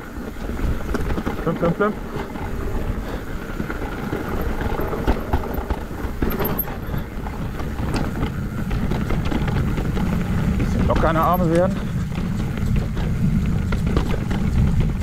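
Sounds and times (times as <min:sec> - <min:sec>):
bike knocks and rattles: 0:00.0 - 0:15.0
mountain bike tyre noise: 0:00.0 - 0:15.0.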